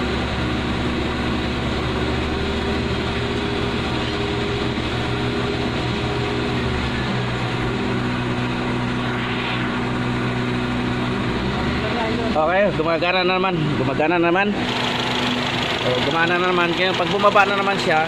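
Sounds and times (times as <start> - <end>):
car engine idling: 0.0 - 9.2, 9.8 - 18.0
radiator cooling fan: 0.0 - 18.0.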